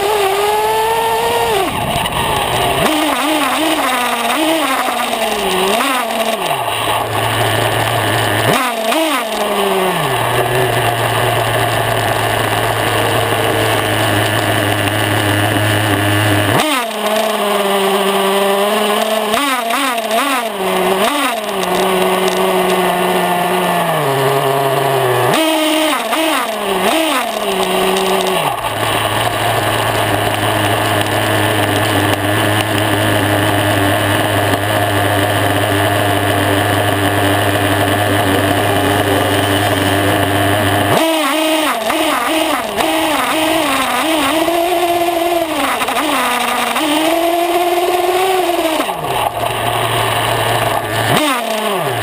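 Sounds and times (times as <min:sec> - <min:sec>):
nitro engine idling and revving: 0:00.0 - 0:52.0.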